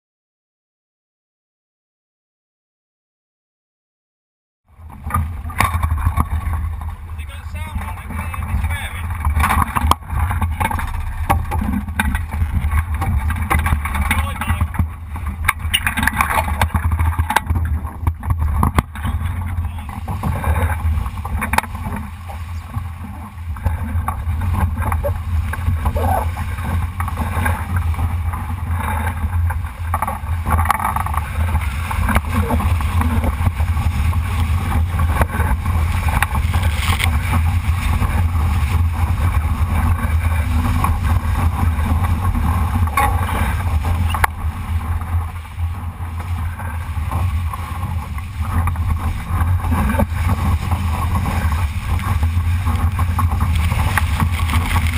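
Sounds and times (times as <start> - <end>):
water splashing against hull: 4.7 - 54.9
wind buffeting microphone: 4.7 - 54.9.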